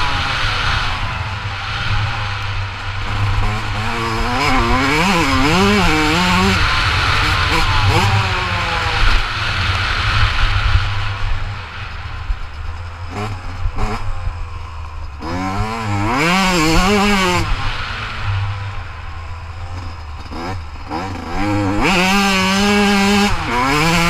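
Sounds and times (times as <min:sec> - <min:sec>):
two-stroke dirt bike engine revving: 0:00.0 - 0:24.0.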